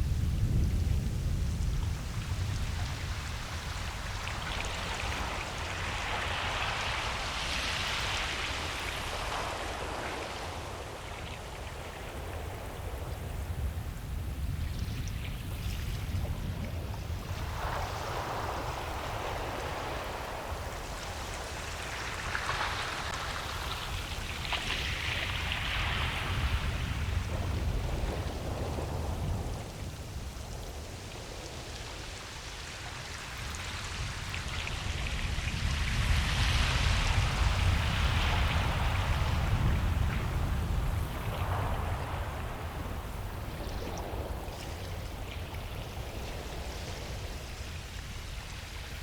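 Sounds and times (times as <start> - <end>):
ocean waves breaking: 2.0 - 14.6, 15.8 - 49.0.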